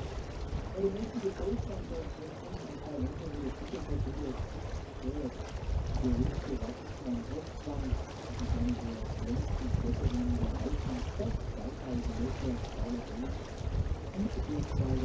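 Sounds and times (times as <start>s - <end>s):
water rushing in boat wake: 0.0s - 15.0s
people talking indistinctly: 0.8s - 4.4s, 5.0s - 5.3s, 6.0s - 13.3s, 14.2s - 15.0s.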